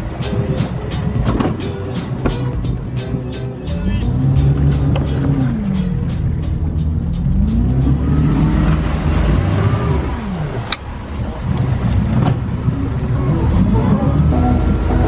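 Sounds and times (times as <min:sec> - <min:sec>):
motorboat engine running: 0:00.0 - 0:15.0
propeller churning water: 0:00.0 - 0:15.0.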